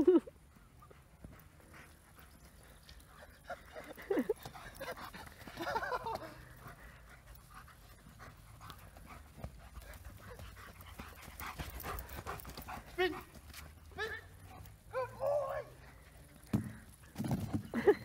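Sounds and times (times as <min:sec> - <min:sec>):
dog panting: 0:00.4 - 0:14.9.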